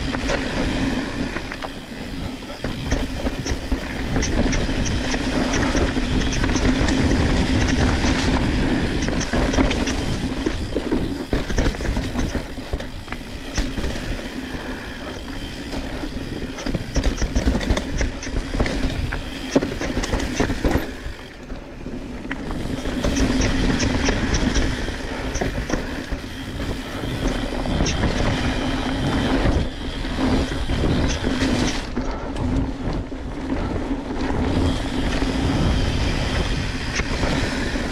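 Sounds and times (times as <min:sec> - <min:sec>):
bike rattling: 0:00.0 - 0:37.9
bike tyres rumbling on dirt: 0:00.0 - 0:37.9.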